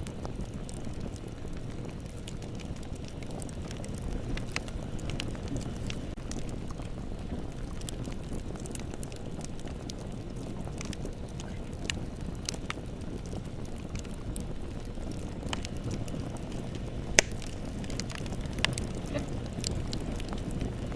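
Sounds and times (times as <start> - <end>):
fire crackles and pops: 0.0 - 20.9
low rumble of flames: 0.0 - 20.9.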